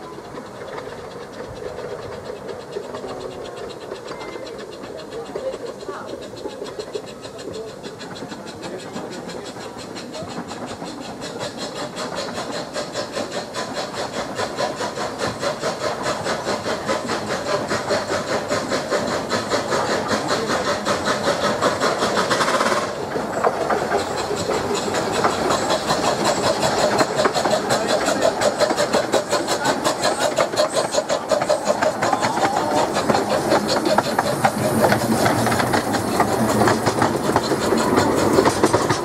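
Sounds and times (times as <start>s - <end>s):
steam hiss: 0.0s - 39.0s
steam locomotive exhaust beat: 0.0s - 39.0s.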